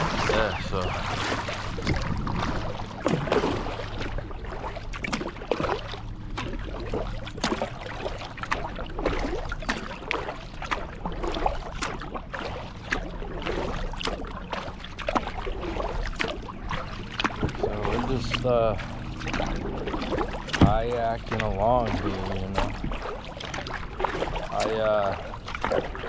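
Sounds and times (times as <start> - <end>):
paddle strokes in water: 0.0 - 26.0
water splashing and dripping: 0.0 - 26.0.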